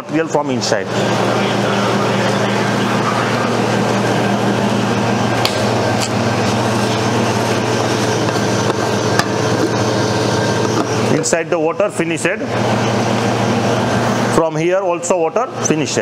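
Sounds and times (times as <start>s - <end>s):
ice cream machine humming: 0.0s - 16.0s.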